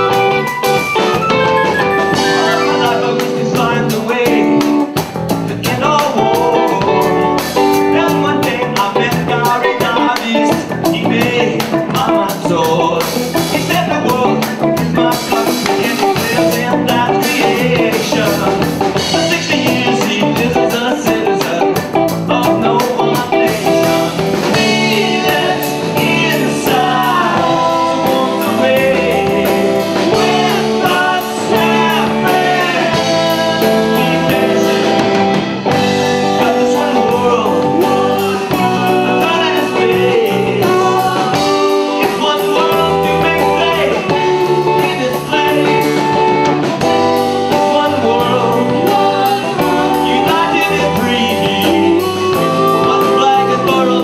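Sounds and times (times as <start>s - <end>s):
bass guitar: 0.0s - 54.0s
drums: 0.0s - 54.0s
electric guitar: 0.0s - 54.0s
keyboard: 0.0s - 54.0s
person singing: 0.0s - 54.0s.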